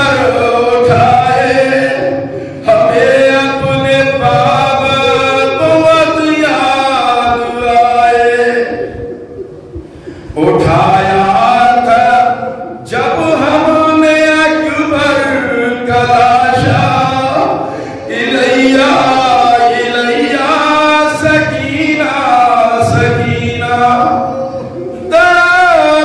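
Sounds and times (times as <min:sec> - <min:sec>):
man chanting a lament: 0:00.0 - 0:09.2, 0:10.2 - 0:26.0.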